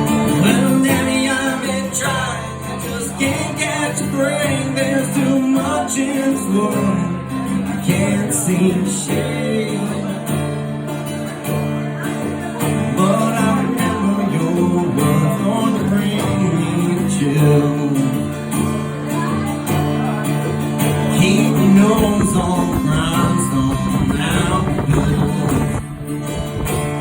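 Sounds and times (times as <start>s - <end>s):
country band playing: 0.0s - 27.0s
plucked acoustic guitar: 0.0s - 27.0s
strummed guitar rhythm: 0.0s - 27.0s.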